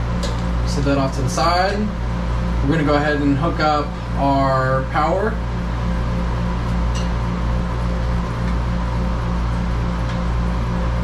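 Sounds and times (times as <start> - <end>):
pulsing low machine hum: 0.0 - 11.0.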